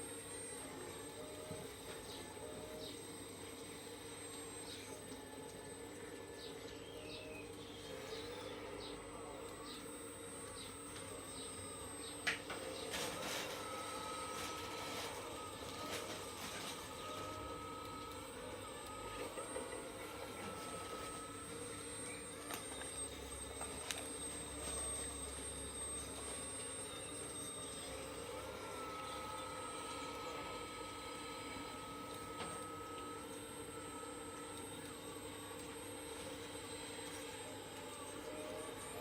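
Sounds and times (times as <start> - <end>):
hydraulic pump humming: 0.0 - 39.0.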